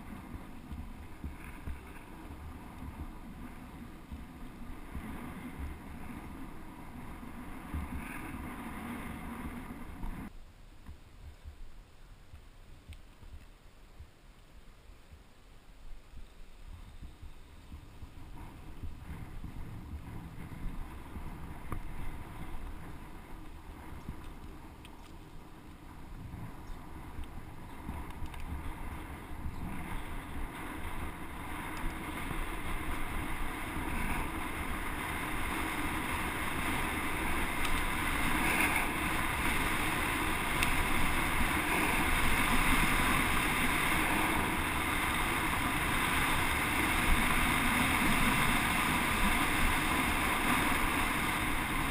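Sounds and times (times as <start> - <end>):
rolling rumble: 0.0 - 11.7, 16.6 - 51.9
wind rushing over microphone: 0.0 - 11.8, 15.9 - 51.9.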